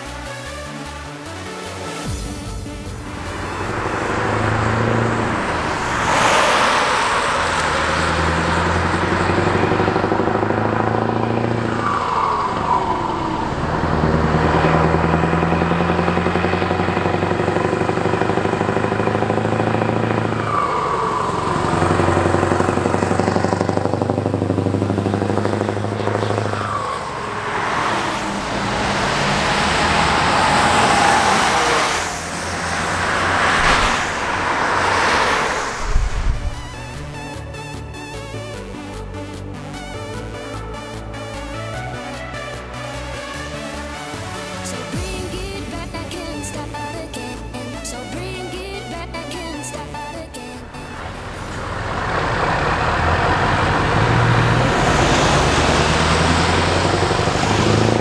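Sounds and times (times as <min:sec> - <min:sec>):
diesel truck accelerating: 0:00.0 - 0:58.0.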